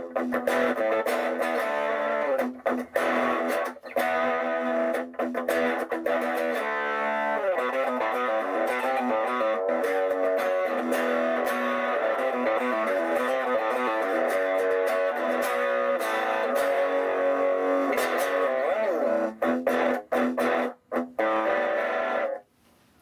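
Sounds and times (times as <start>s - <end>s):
electric guitar chords and notes: 0.0s - 22.4s.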